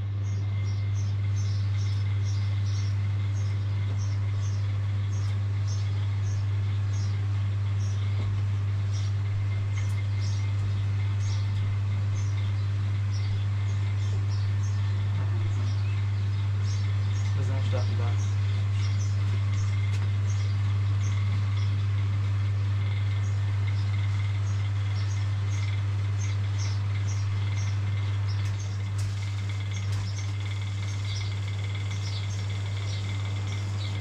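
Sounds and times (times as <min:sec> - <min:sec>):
low mechanical hum: 0:00.0 - 0:34.0
small birds chirping: 0:00.1 - 0:34.0.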